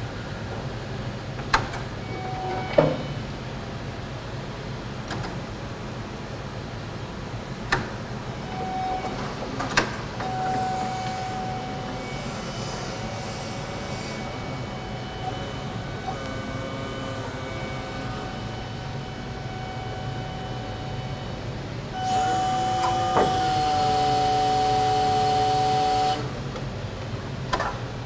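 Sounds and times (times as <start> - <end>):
forklift humming with whine: 0.0 - 28.0.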